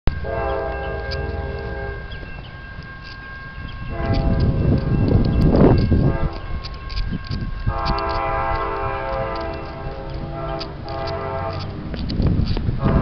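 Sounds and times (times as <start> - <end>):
train horn chord: 0.1 - 2.3, 3.0 - 6.9, 7.6 - 11.8, 12.8 - 13.0
low rumble: 0.1 - 13.0.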